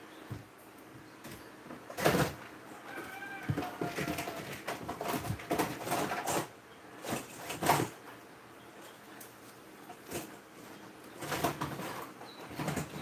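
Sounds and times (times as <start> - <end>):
objects and wires rustling: 0.0 - 8.2, 8.8 - 13.0.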